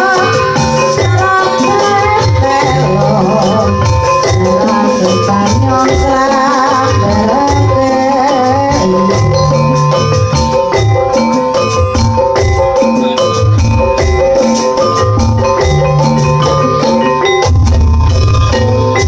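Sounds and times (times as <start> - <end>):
drums beating: 0.0 - 19.0
struck metallophone notes: 0.0 - 19.0
wavering melody line: 0.0 - 19.0.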